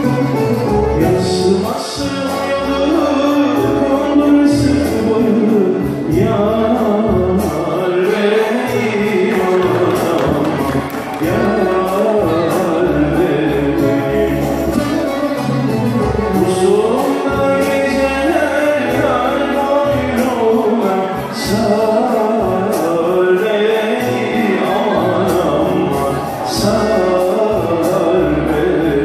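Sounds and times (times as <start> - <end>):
keyboard: 0.0 - 29.0
man singing into microphone: 0.0 - 29.0
violin: 0.0 - 29.0.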